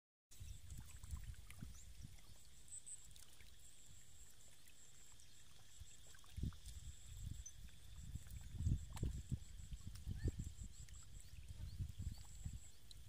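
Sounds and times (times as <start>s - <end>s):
fish splashing in shallow water: 0.4s - 13.0s.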